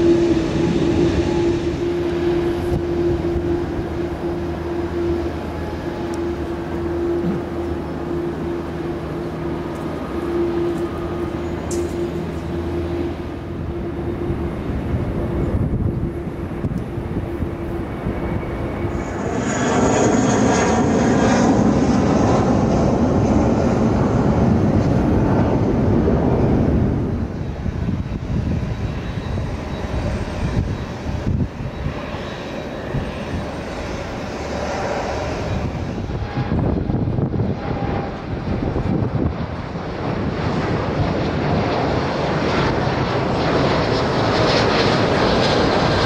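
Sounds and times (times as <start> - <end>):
jet engines at takeoff thrust: 0.0 - 46.0.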